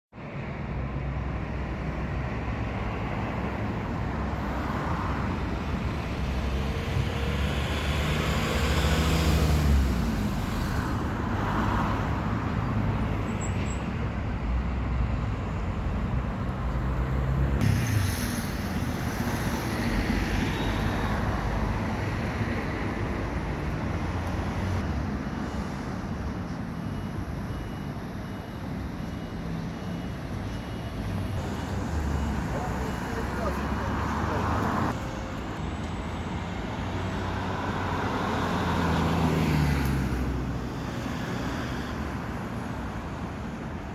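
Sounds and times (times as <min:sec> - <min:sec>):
traffic rumble: 0:00.2 - 0:43.9.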